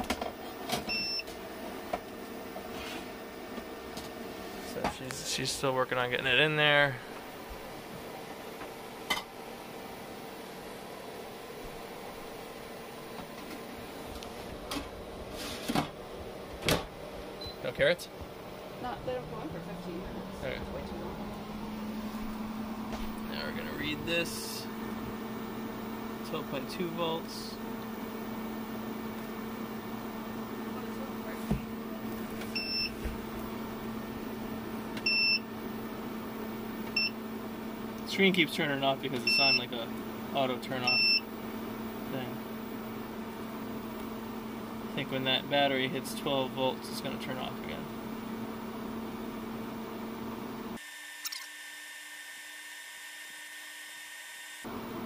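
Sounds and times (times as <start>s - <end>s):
steady low hum: 0.0s - 50.8s.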